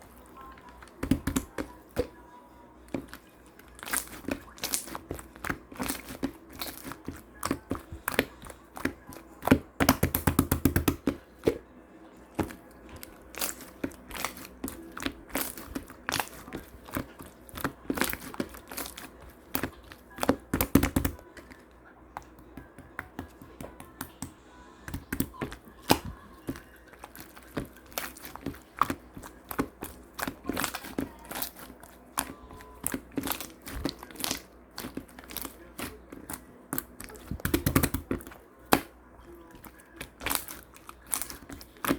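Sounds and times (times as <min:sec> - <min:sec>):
slime clicking and crackling: 0:00.0 - 0:02.2, 0:02.9 - 0:11.6, 0:12.4 - 0:24.3, 0:24.9 - 0:41.9.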